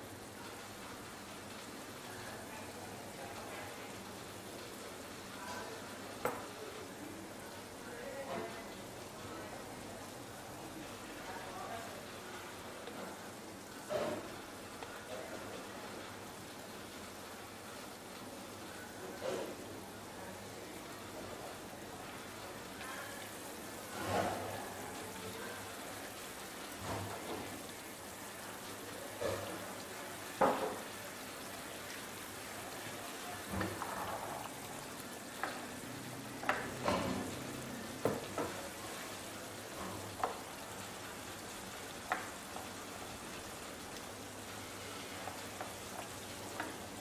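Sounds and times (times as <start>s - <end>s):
sauce simmering and sizzling in a pan: 0.0s - 47.0s.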